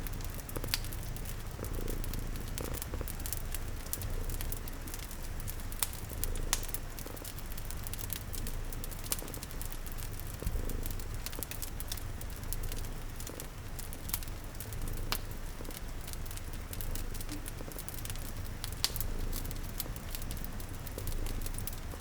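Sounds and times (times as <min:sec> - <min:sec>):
cat purring: 0:00.0 - 0:22.0
fireplace crackling and popping: 0:00.0 - 0:22.0.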